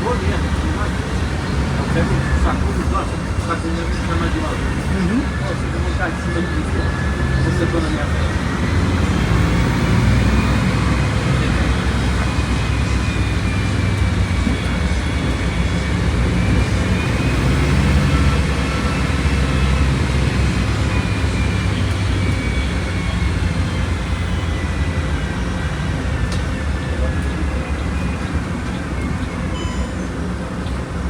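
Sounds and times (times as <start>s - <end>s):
bus engine droning: 0.0s - 31.0s.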